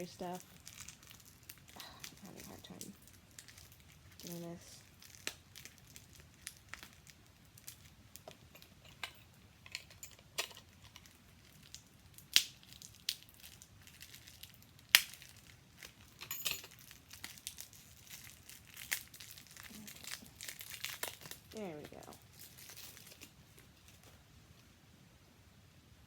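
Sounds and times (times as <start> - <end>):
packaging crinkling: 0.0 - 24.3.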